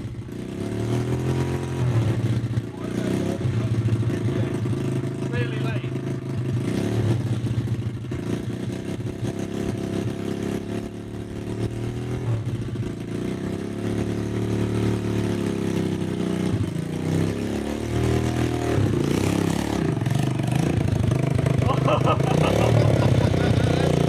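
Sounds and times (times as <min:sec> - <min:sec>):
small motorbike engine revving: 0:00.0 - 0:24.0.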